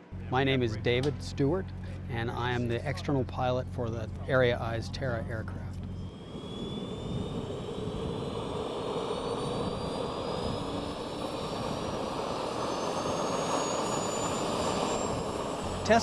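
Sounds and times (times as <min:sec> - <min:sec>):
model jet turbine whine rising: 0:00.0 - 0:16.0.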